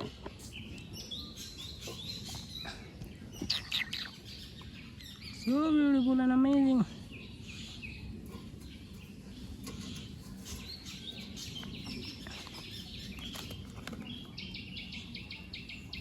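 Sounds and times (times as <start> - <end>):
small birds chirping: 0.0 - 16.0
steady low background noise: 0.0 - 16.0.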